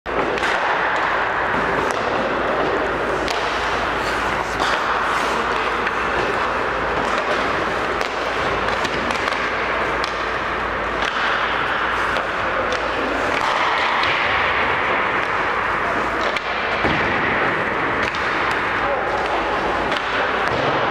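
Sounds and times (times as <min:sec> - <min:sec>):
ice rink ambience hiss: 0:00.1 - 0:20.9.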